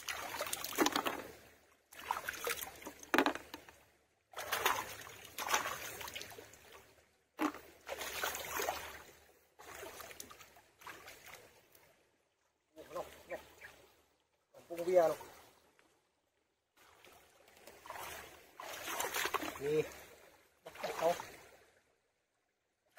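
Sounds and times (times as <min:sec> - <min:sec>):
stream water splashing: 0:00.0 - 0:16.0, 0:16.6 - 0:22.0.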